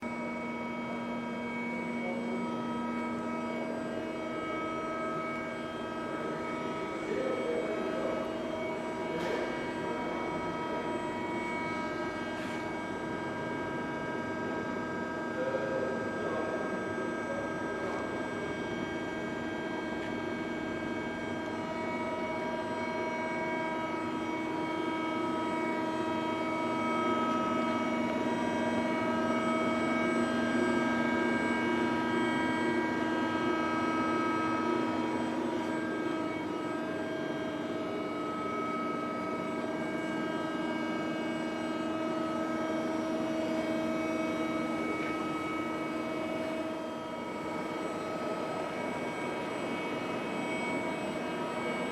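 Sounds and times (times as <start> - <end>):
machine whine: 0.0 - 51.9.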